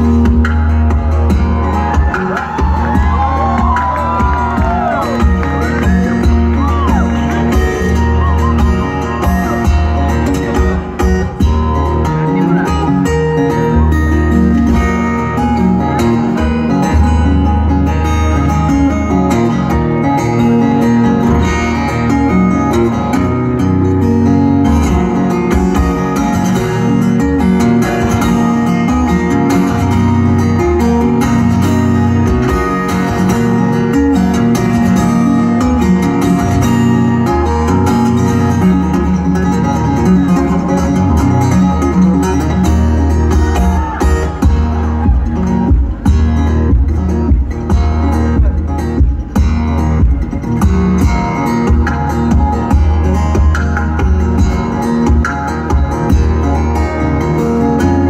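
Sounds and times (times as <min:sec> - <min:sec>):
fingerstyle acoustic guitar: 0:00.0 - 0:58.0.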